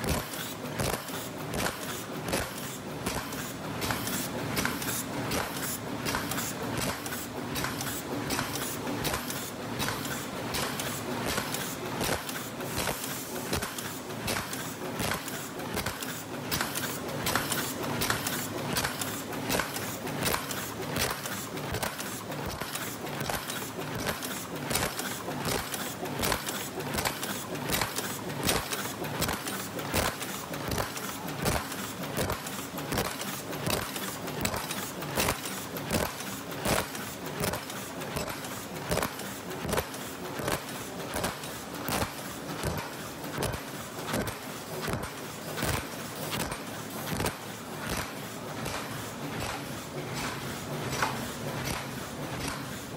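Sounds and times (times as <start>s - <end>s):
machine clattering rapidly: 0.0s - 52.9s.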